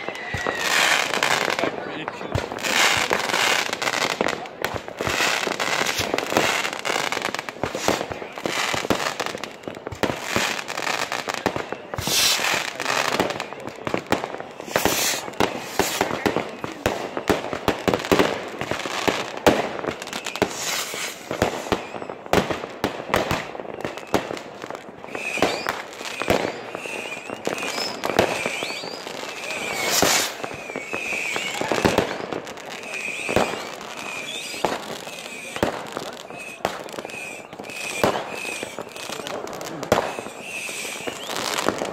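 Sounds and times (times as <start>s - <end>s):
wavering firework whistles: 0.0s - 1.7s, 2.4s - 22.4s, 23.1s - 41.9s
fireworks bangs and crackling: 0.0s - 41.9s.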